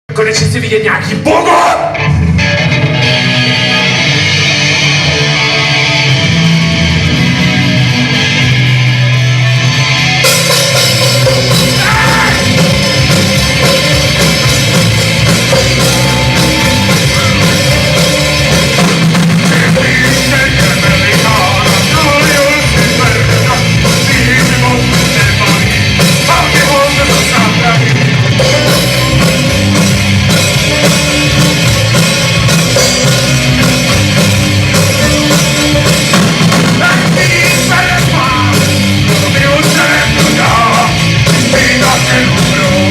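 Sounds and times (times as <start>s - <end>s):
drums: 0.0s - 42.9s
rock band playing: 0.1s - 42.9s
electric guitar: 1.7s - 42.9s.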